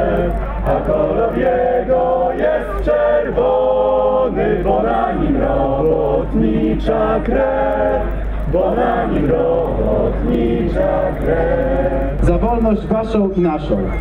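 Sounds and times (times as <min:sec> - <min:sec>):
voices singing slow melody: 0:00.0 - 0:12.4
steady low rumble: 0:00.0 - 0:14.0.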